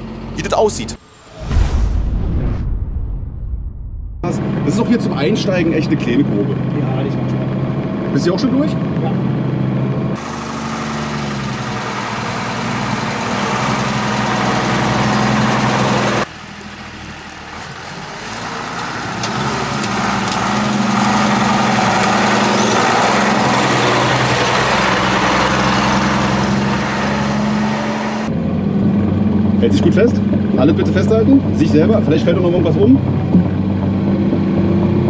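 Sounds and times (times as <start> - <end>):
diesel truck engine running: 0.0 - 1.2, 4.2 - 35.0.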